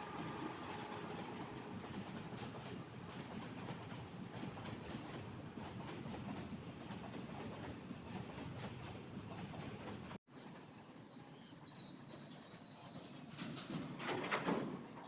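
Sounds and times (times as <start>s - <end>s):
train wheels clattering on rails: 0.0s - 10.2s, 12.1s - 15.0s.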